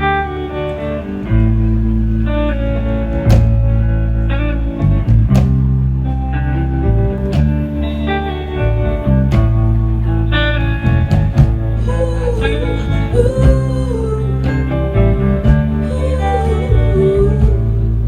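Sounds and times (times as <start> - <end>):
bass guitar sustained notes: 0.0 - 18.0
electric guitar: 0.0 - 18.0.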